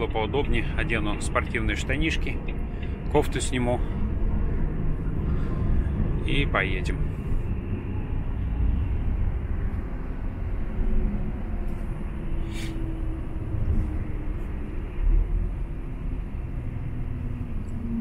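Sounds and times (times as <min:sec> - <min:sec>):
road noise: 0:00.0 - 0:18.0
truck engine drone: 0:00.0 - 0:18.0.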